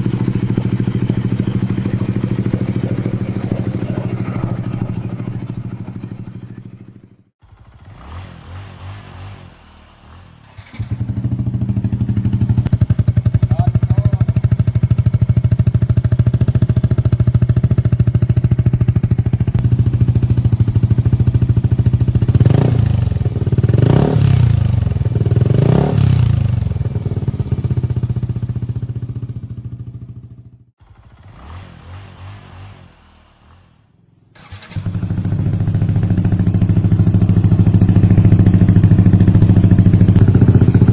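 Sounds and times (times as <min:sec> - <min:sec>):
scooter engine idling and revving: 0:00.0 - 0:40.9.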